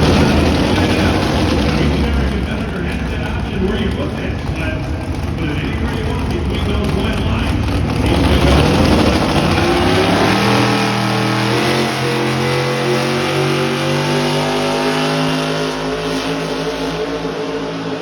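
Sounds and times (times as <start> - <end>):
truck engine revving under load: 0.0 - 18.0.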